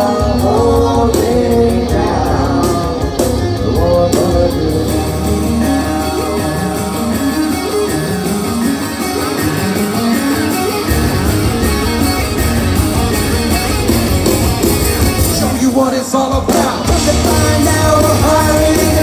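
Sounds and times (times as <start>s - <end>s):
electric guitar: 0.0s - 19.0s
live rock band: 0.0s - 19.0s.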